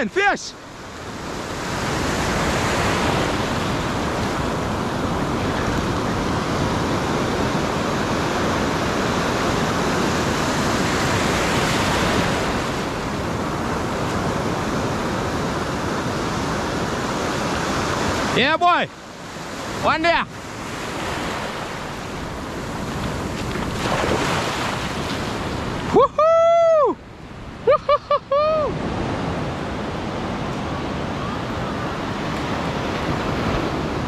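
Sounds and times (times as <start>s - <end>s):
ocean surf: 0.0s - 34.0s
wind: 0.0s - 34.0s.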